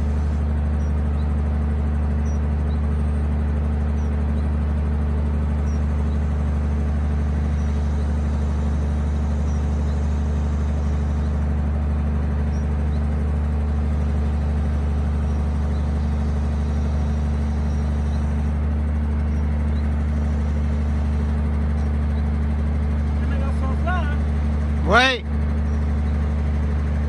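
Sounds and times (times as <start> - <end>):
tractor diesel engine droning: 0.0 - 27.0.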